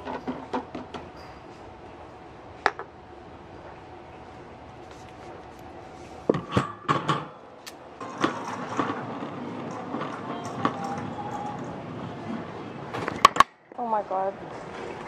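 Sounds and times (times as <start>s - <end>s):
shop background: 0.0s - 15.0s.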